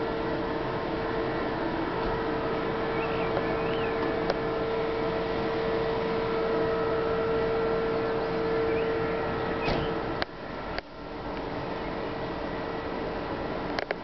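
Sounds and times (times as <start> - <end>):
city ambience rush: 0.0 - 14.0
mid-pitched hum: 0.0 - 14.0.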